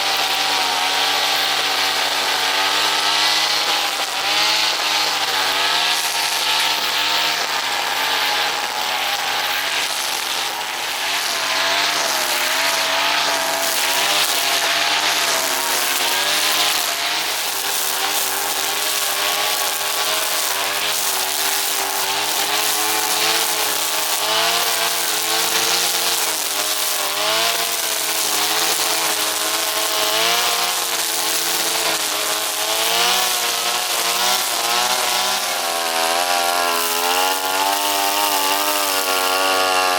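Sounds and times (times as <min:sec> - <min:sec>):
brushcutter engine cutting grass: 0:00.0 - 0:39.9.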